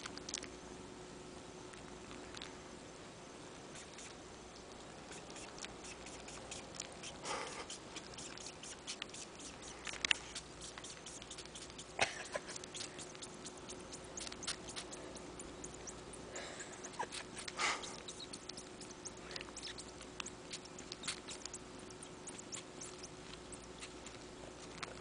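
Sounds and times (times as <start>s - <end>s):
kitten suckling wet clicks: 0.0s - 0.6s, 1.7s - 2.5s, 3.7s - 25.0s.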